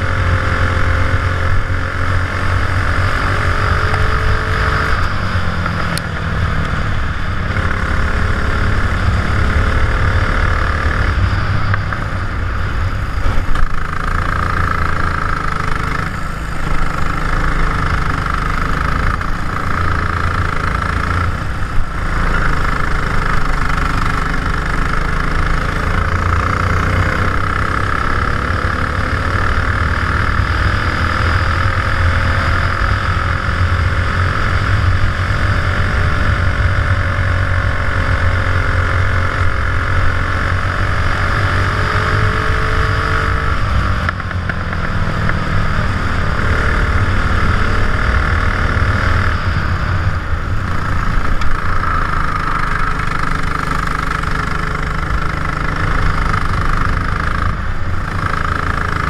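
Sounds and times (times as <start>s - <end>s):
kart engine accelerating: 0.0s - 59.0s.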